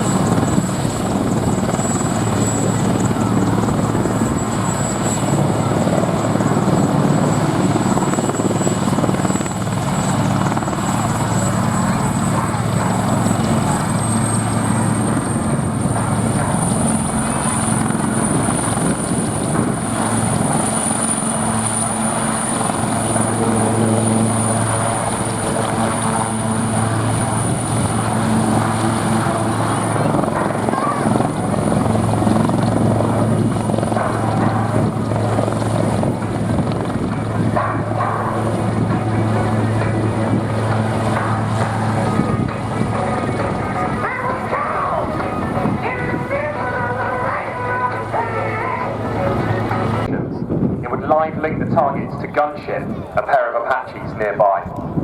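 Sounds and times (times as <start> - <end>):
thin high whine: 0.0 - 50.1
helicopter rotor and engine: 0.0 - 55.0.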